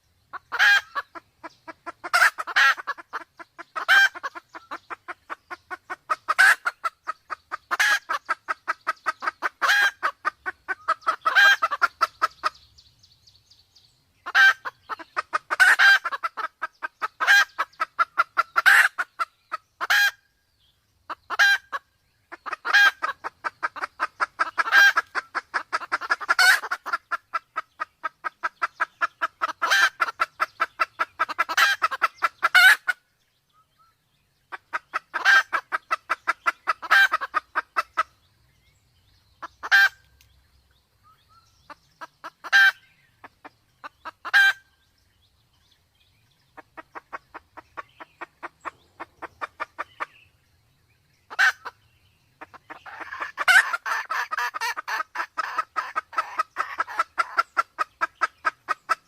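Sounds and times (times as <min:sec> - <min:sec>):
junglefowl clucking: 0:00.3 - 0:12.7, 0:14.2 - 0:20.3, 0:21.1 - 0:33.1, 0:34.5 - 0:38.2, 0:39.4 - 0:40.3, 0:41.6 - 0:44.8, 0:46.5 - 0:50.3, 0:51.3 - 0:51.8, 0:52.4 - 0:59.0.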